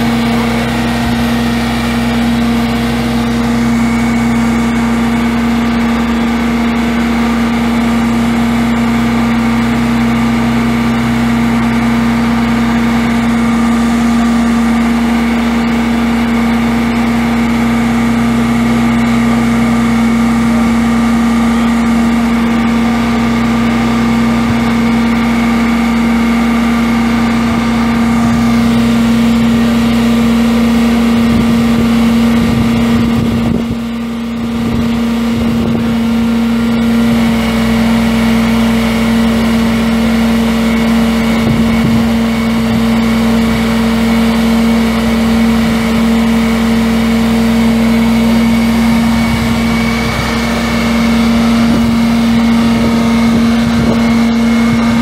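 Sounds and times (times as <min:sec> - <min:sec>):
diesel engine running: 0:00.0 - 0:55.0
strong steady whine: 0:00.0 - 0:55.0.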